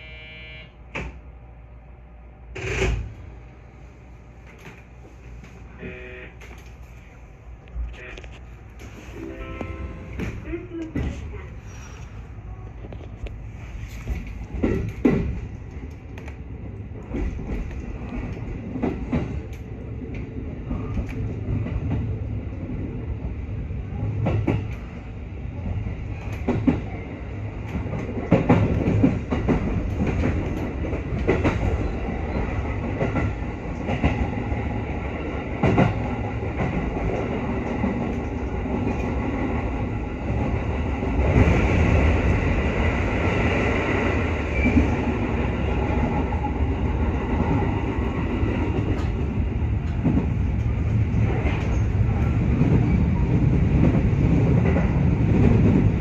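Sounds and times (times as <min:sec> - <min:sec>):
train wheels rumbling on rail: 0:00.8 - 0:56.0.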